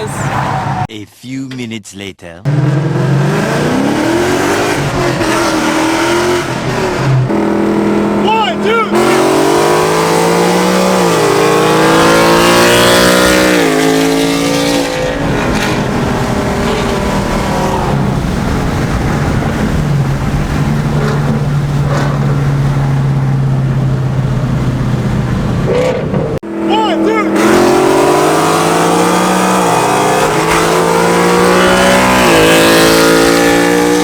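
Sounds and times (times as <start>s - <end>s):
car engine accelerating hard: 2.5s - 34.0s.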